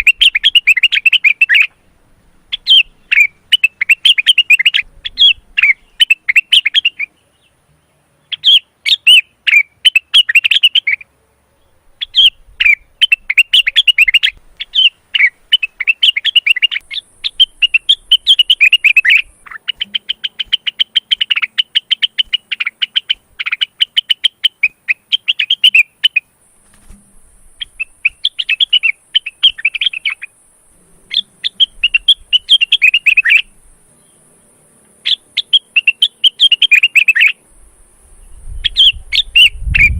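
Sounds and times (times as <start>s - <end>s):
bird singing chattering notes: 0.0s - 1.9s, 2.5s - 7.6s, 8.3s - 26.3s, 27.5s - 30.4s, 31.0s - 34.3s, 35.0s - 37.4s, 38.2s - 39.9s.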